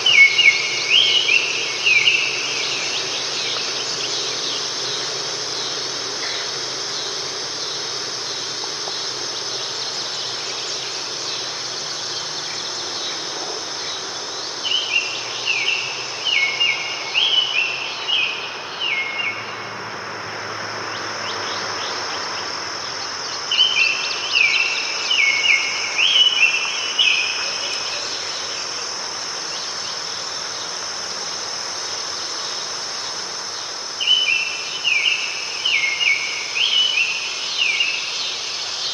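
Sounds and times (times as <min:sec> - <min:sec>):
high insect trill: 0:00.0 - 0:38.9
songbird singing: 0:00.0 - 0:38.9.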